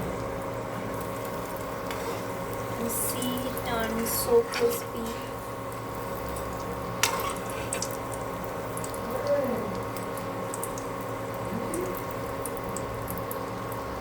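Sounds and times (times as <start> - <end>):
steady hum: 0.0 - 14.0
food sizzling in hot oil: 0.2 - 9.1, 9.7 - 14.0.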